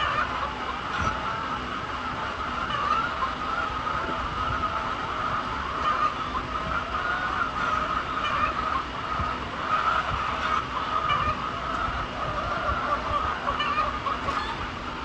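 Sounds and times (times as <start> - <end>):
flock of poultry calling: 0.0 - 15.0.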